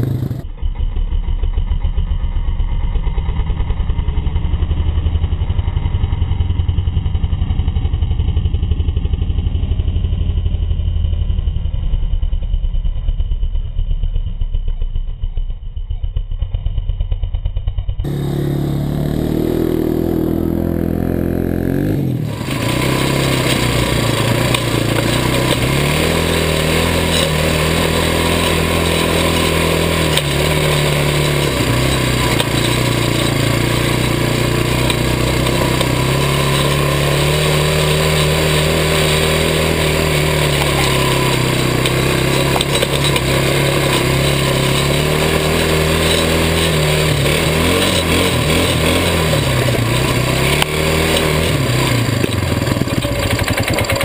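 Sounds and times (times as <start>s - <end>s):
atv engine revving: 0.0s - 0.6s, 2.8s - 11.9s, 18.0s - 54.0s.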